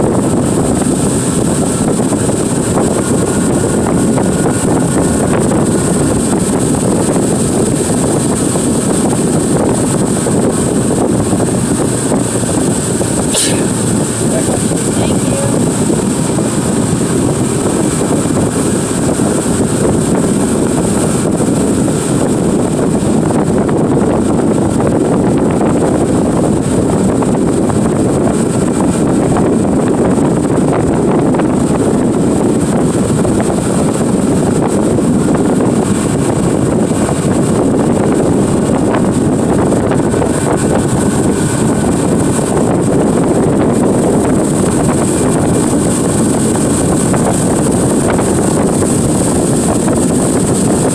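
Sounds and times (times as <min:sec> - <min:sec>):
boat engine running: 0:00.0 - 0:50.9
wind buffeting microphone: 0:00.0 - 0:50.9.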